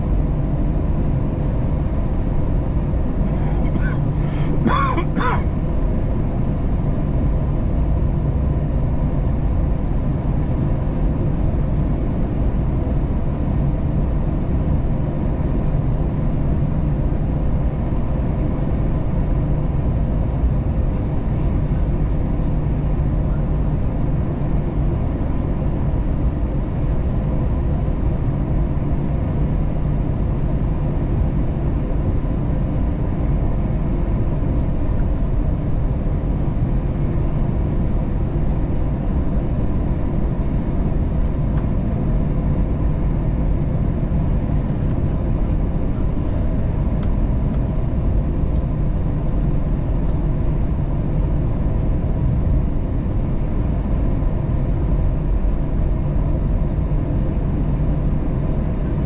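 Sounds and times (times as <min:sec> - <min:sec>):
faint steady hums: 0:00.0 - 0:59.0
jet engine cabin drone: 0:00.0 - 0:59.0.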